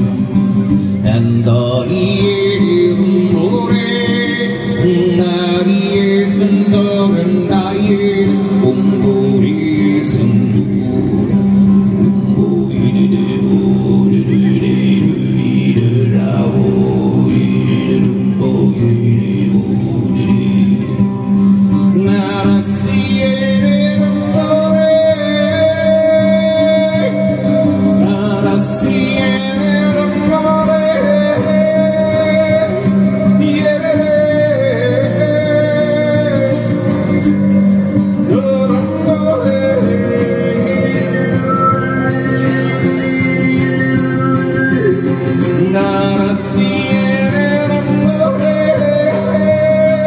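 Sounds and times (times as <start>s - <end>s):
acoustic guitar: 0.0s - 50.0s
man overtone singing: 0.0s - 50.0s.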